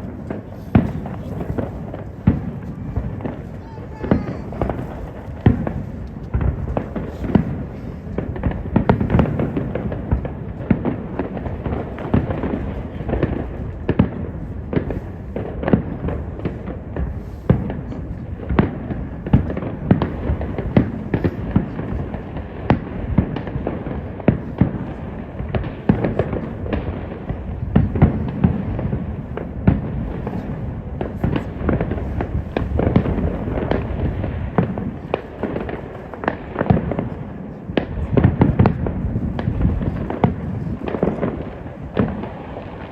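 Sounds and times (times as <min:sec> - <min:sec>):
fireworks bursts and bangs: 0:00.0 - 0:42.9.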